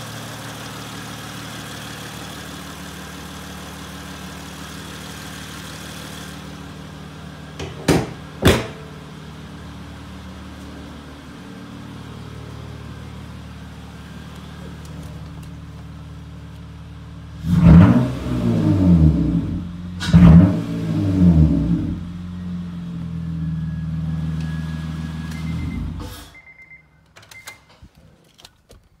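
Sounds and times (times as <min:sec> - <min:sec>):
car engine idling and revving: 0:00.0 - 0:26.4.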